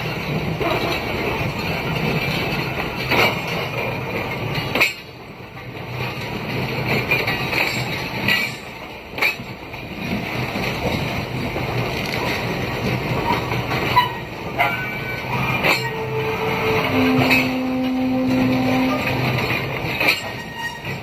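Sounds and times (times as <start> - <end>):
train coaches rumbling on track: 0.0 - 21.0.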